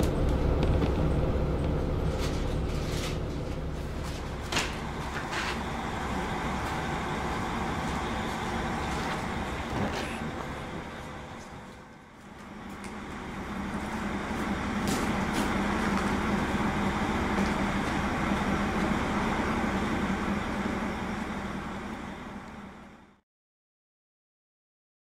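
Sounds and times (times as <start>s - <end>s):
diesel railcar engine drone: 0.0s - 23.2s.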